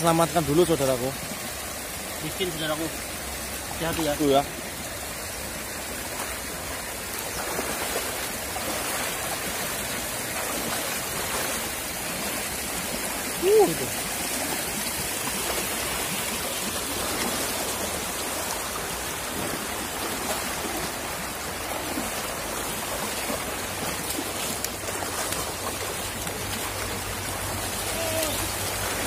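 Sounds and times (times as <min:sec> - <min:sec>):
river water running over stones: 0:00.0 - 0:29.0
splashing of wading: 0:00.0 - 0:29.0.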